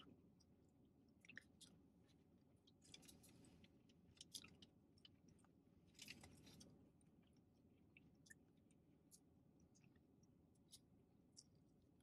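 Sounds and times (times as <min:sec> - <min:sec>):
chewing crunchy fried chicken: 0:00.0 - 0:12.0.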